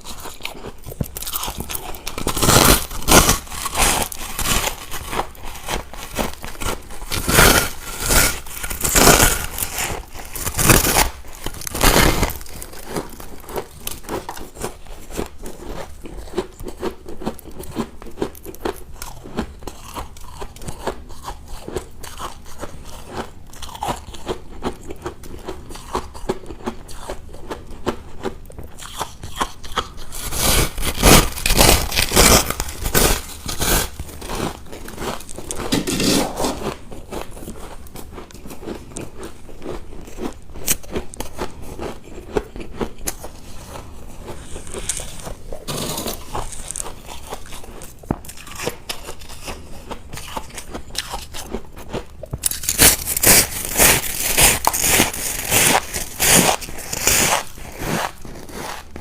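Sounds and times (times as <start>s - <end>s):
ice cubes crunching: 0.0s - 27.2s, 28.8s - 58.8s
grinding chewing: 0.0s - 59.0s.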